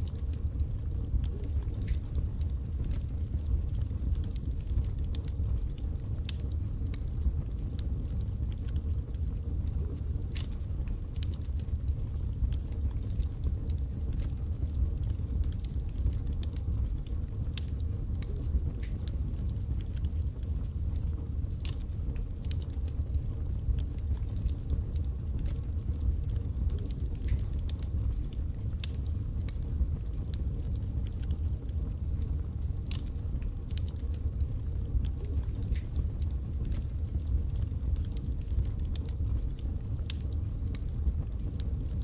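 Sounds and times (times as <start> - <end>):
fire crackling and popping: 0.0 - 42.0
flames rumbling: 0.0 - 42.0.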